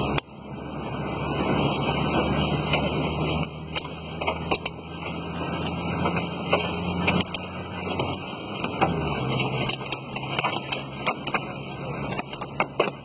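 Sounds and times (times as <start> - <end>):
car engine humming: 0.0 - 13.0
rain pelting windshield: 0.0 - 13.0.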